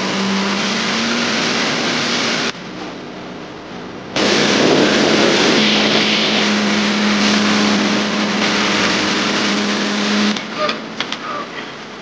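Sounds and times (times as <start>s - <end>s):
rush of wind and water: 0.0s - 2.8s, 3.6s - 12.0s
outboard engine drone: 0.0s - 12.0s.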